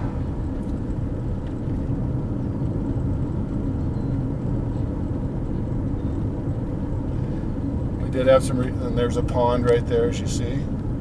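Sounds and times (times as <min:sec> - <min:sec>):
car engine: 0:00.0 - 0:11.0
tyres on paved road: 0:00.0 - 0:11.0.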